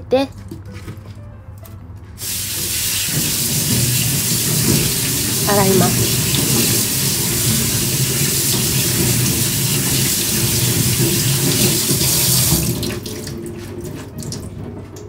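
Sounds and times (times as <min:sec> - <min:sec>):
tap water running onto cabbage: 0:02.2 - 0:15.0
water dripping: 0:02.2 - 0:15.0.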